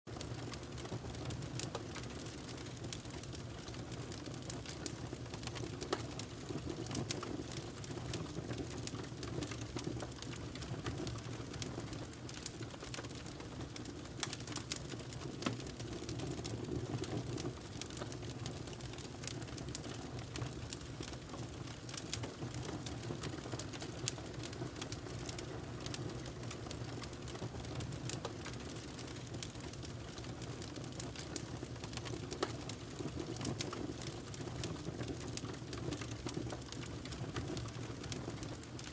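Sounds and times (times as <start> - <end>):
crackles and pops of burning logs: 0.1 - 38.9
low rumble of flames: 0.1 - 38.9.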